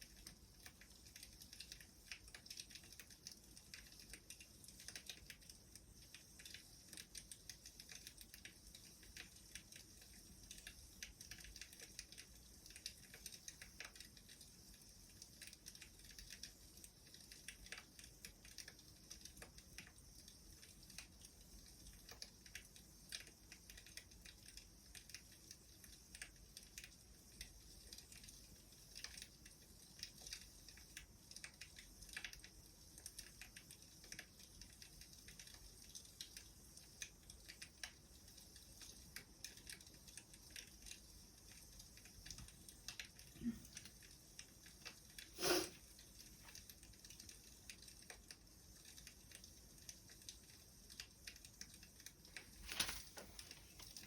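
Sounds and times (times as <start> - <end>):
faint wood fire crackling: 0.0 - 54.0.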